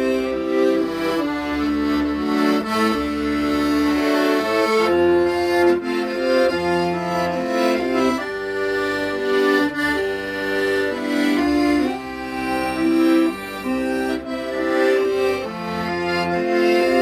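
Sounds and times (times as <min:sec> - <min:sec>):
solo accordion melody: 0:00.0 - 0:17.0.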